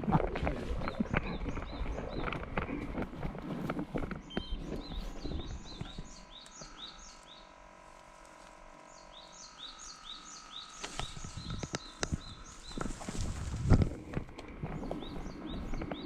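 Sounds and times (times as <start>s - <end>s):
footsteps in vegetation: 0.0s - 16.0s
bird chirping: 0.7s - 3.0s, 3.6s - 7.6s, 8.7s - 16.0s.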